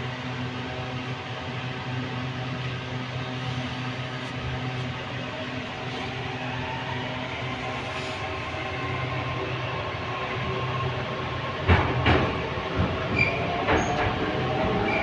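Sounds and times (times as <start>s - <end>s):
metro car running noise: 0.0s - 15.0s.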